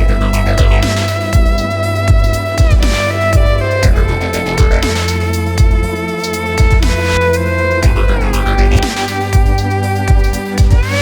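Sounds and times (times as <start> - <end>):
string tones over electronic beat: 0.0 - 11.0.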